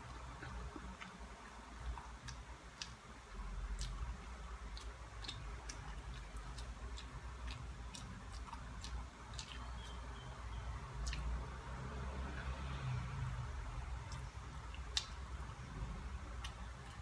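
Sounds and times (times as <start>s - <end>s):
mouth clicks and lip smacks chewing: 0.0s - 12.6s, 13.8s - 17.0s
low steady hum: 0.0s - 17.0s.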